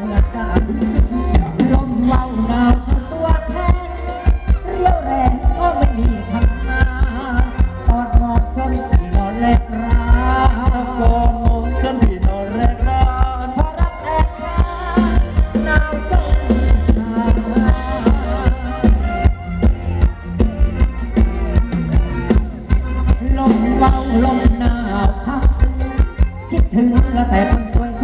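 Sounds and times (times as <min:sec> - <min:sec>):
live band melody over drums: 0:00.0 - 0:28.0.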